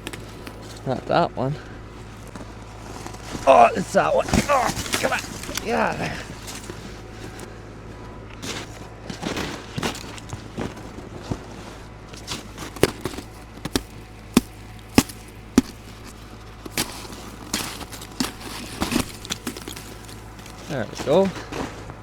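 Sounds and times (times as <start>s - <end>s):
footsteps crunching on snow: 1.8s - 22.0s.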